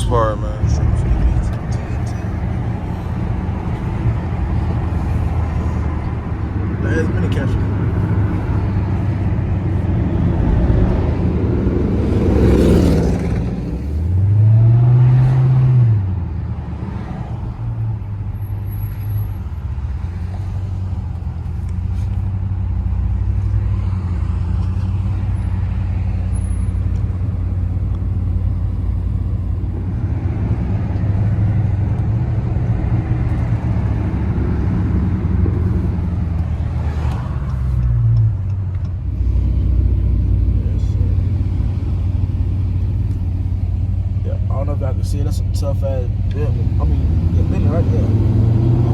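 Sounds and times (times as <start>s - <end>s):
car engine revving while driving: 0.0s - 48.9s.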